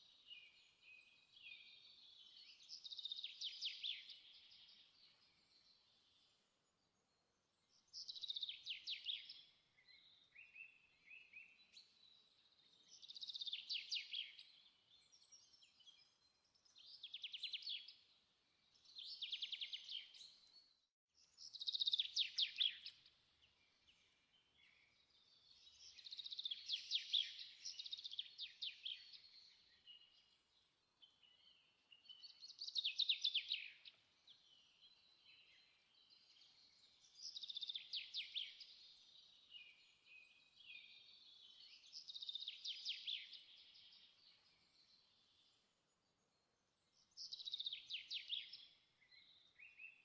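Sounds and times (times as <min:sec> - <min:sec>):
small bird singing trills: 0:00.0 - 0:50.0.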